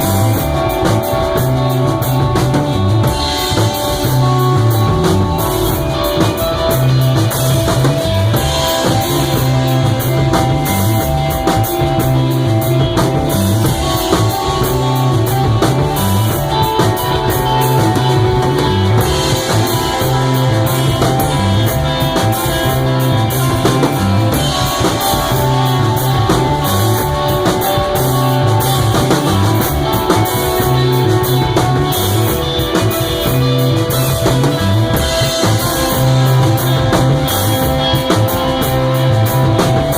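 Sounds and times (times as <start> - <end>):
drum-kit beat: 0.0 - 39.9
electric guitar: 0.0 - 39.9
live rock band playing: 0.0 - 39.9
low bass notes: 0.0 - 39.9.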